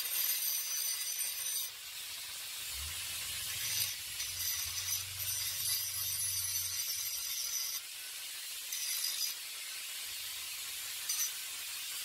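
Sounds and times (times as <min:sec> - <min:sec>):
angle grinder grinding steel: 0:00.0 - 0:09.7.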